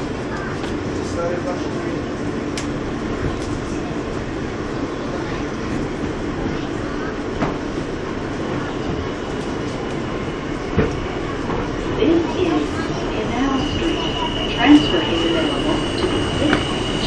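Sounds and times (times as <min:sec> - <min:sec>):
subway train running on rails: 0:00.0 - 0:17.0.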